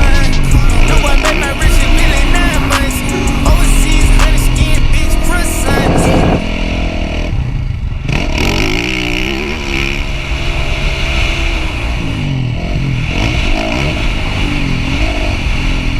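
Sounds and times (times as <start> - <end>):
dirt bike engines revving: 0.0 - 15.9.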